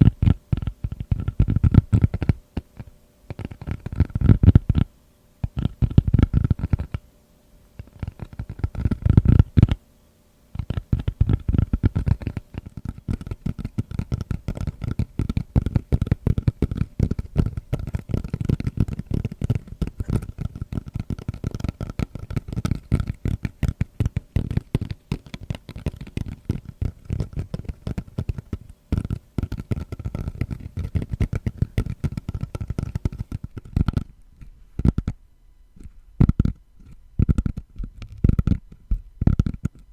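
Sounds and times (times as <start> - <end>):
fingertips tapping on woven mat: 0.0 - 7.0, 7.8 - 9.8, 10.6 - 35.2, 35.8 - 39.9.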